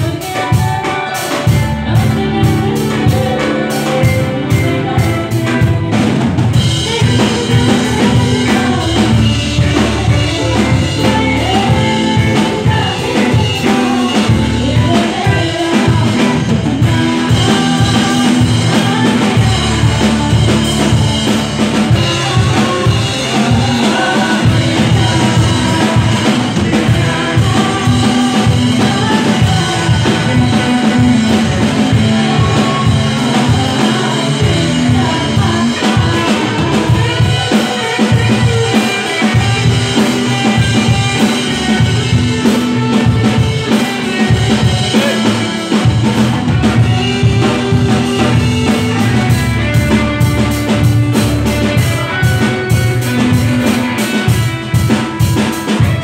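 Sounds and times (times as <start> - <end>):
drum kit beat: 0.0 - 56.0
electric guitar: 0.0 - 56.0
keyboard: 0.0 - 56.0
person singing: 0.0 - 56.0.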